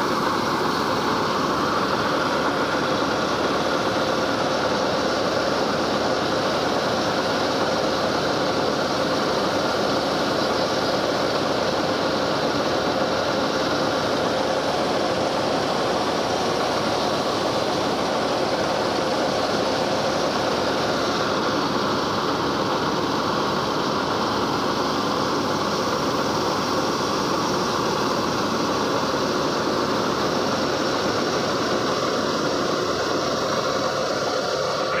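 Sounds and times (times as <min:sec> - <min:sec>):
combine harvester droning: 0:00.0 - 0:35.0.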